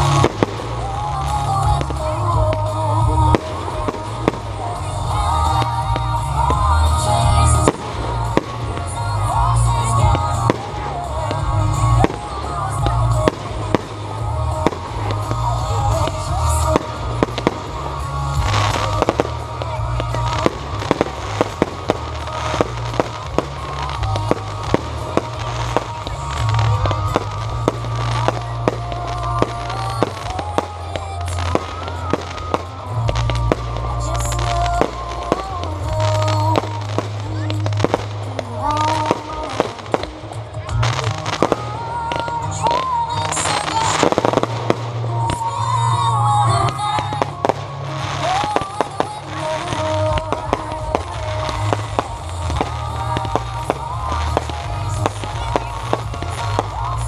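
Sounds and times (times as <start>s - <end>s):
fireworks bangs and crackles: 0.0s - 57.0s
music with heavy bass: 0.0s - 57.0s.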